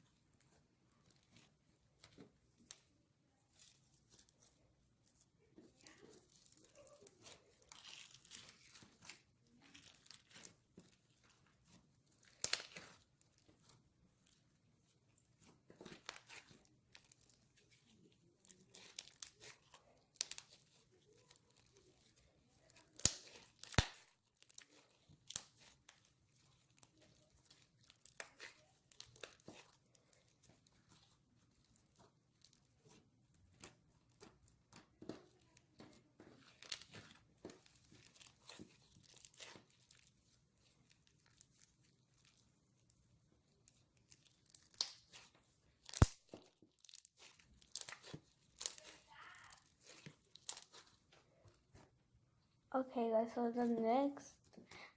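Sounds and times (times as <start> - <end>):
slime squishing and crackling: 0.0 - 52.2.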